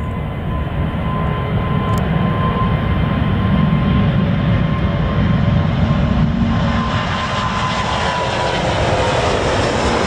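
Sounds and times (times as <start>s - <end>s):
jet engines rumbling at takeoff: 0.0s - 10.0s.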